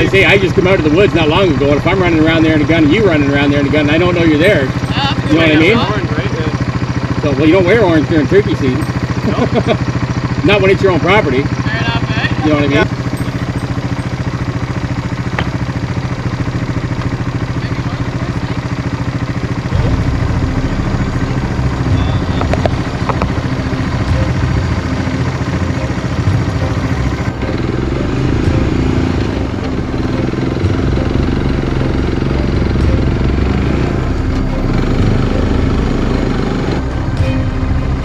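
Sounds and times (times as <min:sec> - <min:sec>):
motorbike engine running: 0:00.0 - 0:38.0.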